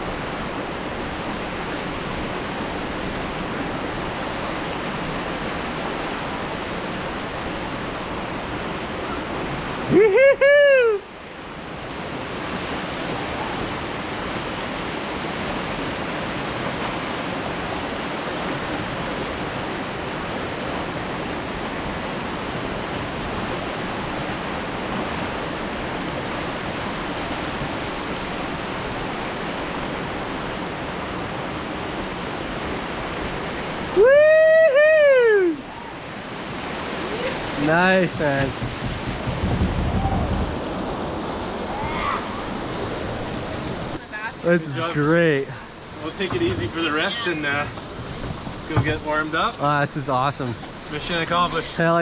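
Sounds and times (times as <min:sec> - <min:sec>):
whitewater rushing over rapids: 0:00.0 - 0:52.0.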